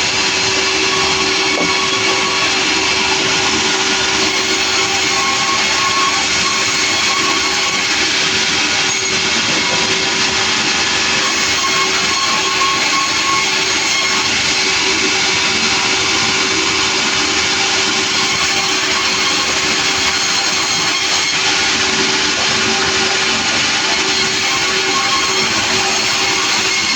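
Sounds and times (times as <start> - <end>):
sawmill machinery running: 0.0 - 26.9.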